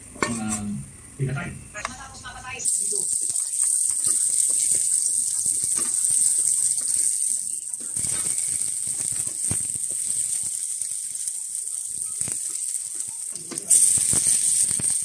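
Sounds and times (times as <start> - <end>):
garlic and onion sizzling in oil: 2.6 - 15.0.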